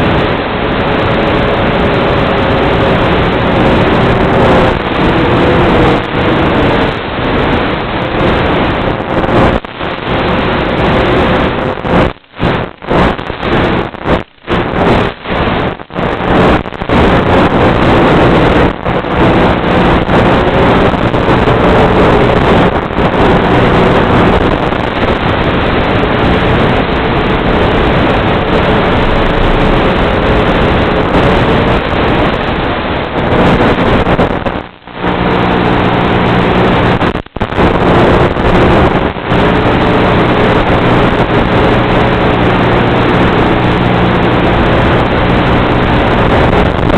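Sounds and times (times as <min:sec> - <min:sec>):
electric motor and propeller whine: 0:00.0 - 0:09.5, 0:14.6 - 0:46.9
radio hiss: 0:00.0 - 0:46.9
wind noise: 0:00.0 - 0:46.9.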